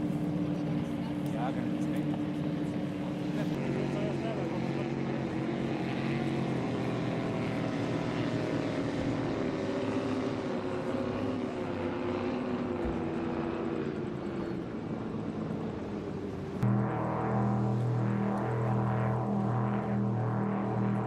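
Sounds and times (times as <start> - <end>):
droning engine: 0.0 - 21.0.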